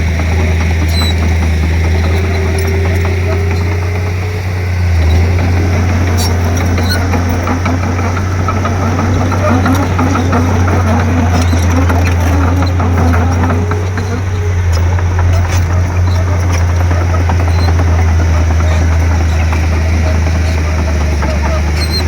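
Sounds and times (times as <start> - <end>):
bulldozer diesel engine droning: 0.0 - 22.0
scattered clicks: 0.1 - 22.0.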